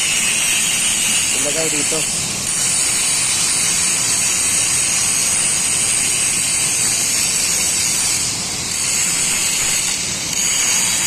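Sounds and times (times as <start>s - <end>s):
loud steady hissing: 0.0s - 11.0s.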